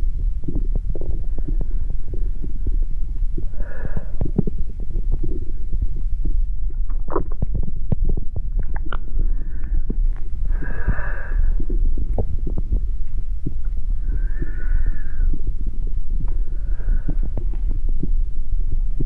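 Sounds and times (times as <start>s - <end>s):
low internal body rumble: 0.0s - 19.0s.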